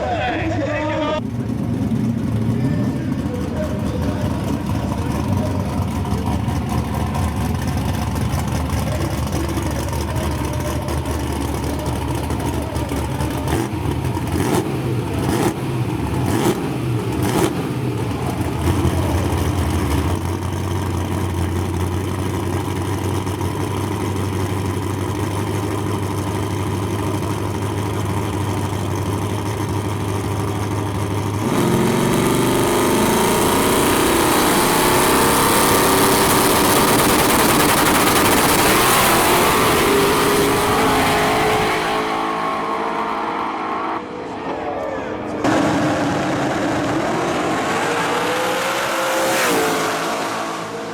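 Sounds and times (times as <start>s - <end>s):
race car accelerating away: 0.0s - 50.9s
race car engines idling and blipping: 0.0s - 50.9s.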